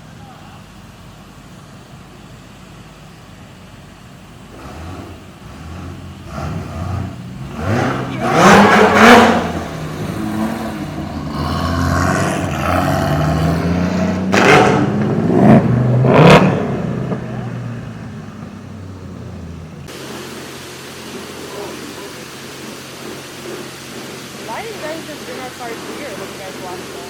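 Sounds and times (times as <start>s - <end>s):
car engine revving: 4.3s - 27.0s.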